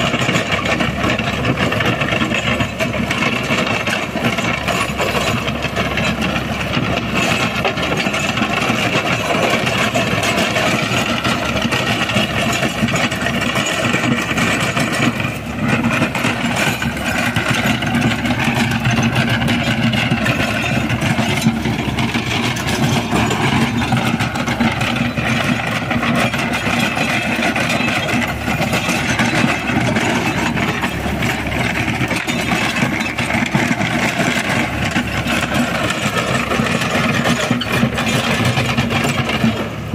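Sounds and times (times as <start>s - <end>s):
rotavator churning soil: 0.0s - 39.9s
tractor diesel engine running: 0.0s - 39.9s.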